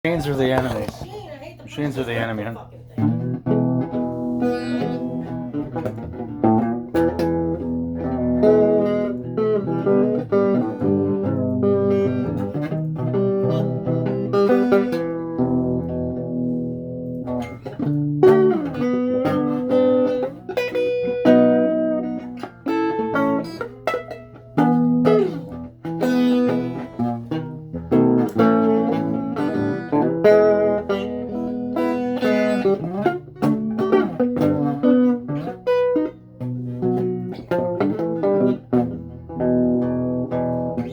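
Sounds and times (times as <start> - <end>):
bass guitar line: 2.9 - 40.9
electric guitar lead notes: 3.0 - 40.9.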